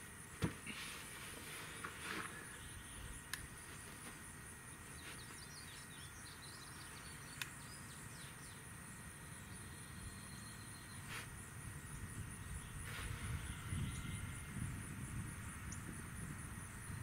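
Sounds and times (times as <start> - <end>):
small birds chirping faintly: 0.2 - 17.0.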